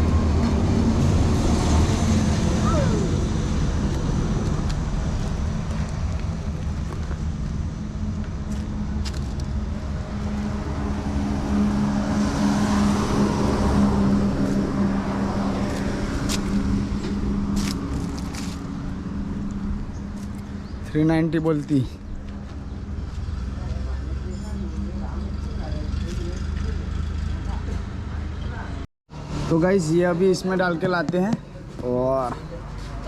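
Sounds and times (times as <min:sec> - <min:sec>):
engine running with low hum: 0:00.0 - 0:29.3
road traffic: 0:00.0 - 0:33.0.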